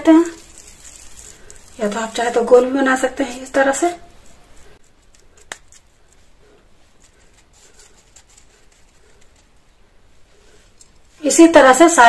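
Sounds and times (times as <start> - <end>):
soft rustles of hands in oats: 0.2 - 3.6, 4.2 - 11.2.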